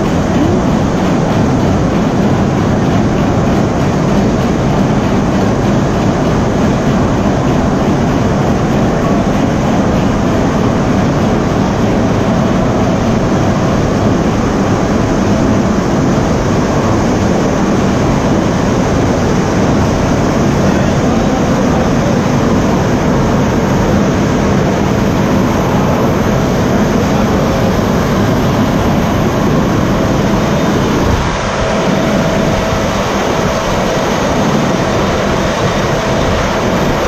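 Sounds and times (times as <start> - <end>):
steam engine running: 0.0 - 37.0.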